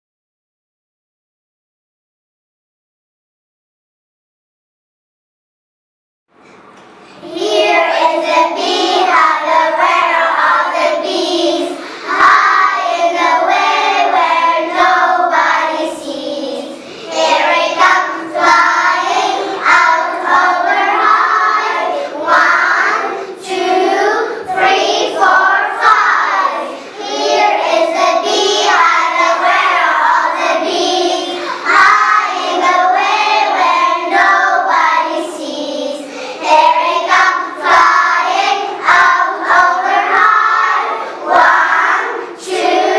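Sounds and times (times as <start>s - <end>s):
children singing together: 6.9s - 42.9s.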